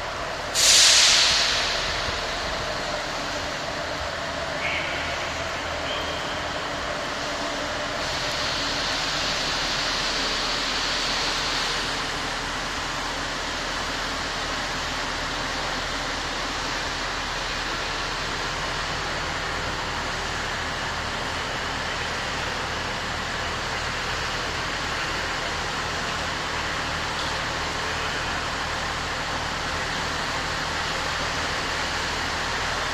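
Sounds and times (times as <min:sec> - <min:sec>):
rail vehicle rumble: 0:00.0 - 0:32.9
hiss: 0:00.4 - 0:32.9.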